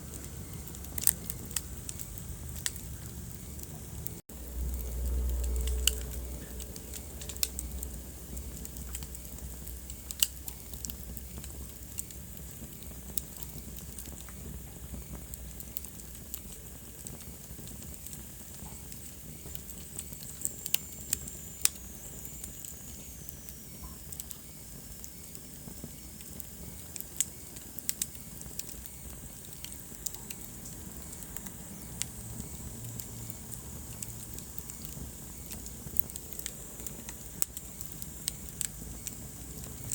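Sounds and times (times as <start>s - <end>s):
fire hissing softly: 0.0s - 39.9s
wood fire crackling and popping: 0.0s - 39.9s.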